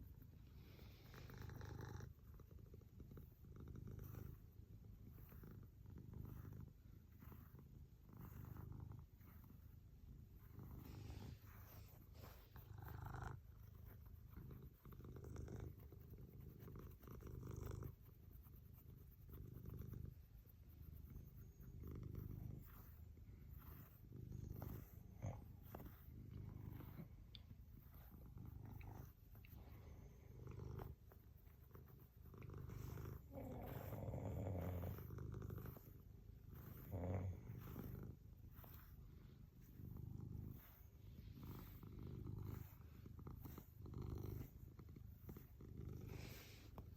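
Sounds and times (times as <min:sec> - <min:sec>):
brush strokes through fur: 0:00.0 - 0:46.9
cat purring softly: 0:00.0 - 0:46.9.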